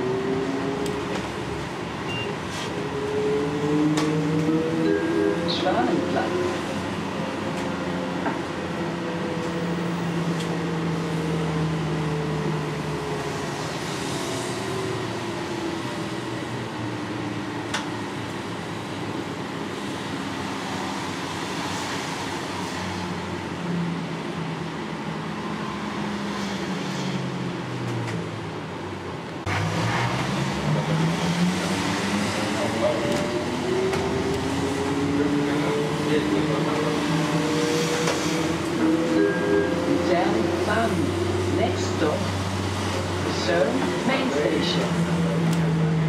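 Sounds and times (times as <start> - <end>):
road and tyre noise: 0.0 - 46.0.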